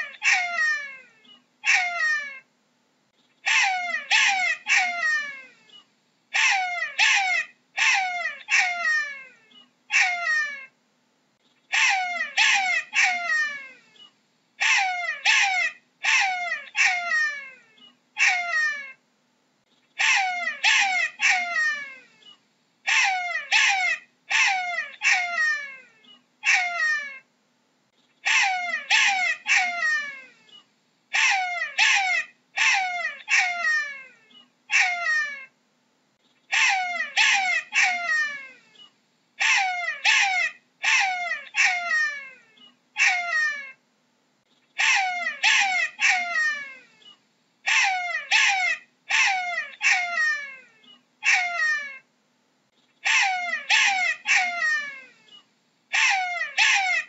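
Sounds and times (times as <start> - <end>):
jackal yelping: 0.0 - 2.5, 3.4 - 5.6, 6.3 - 10.8, 11.7 - 13.8, 14.6 - 19.0, 20.0 - 27.3, 28.2 - 35.6, 36.5 - 43.8, 44.8 - 52.1, 53.0 - 57.0.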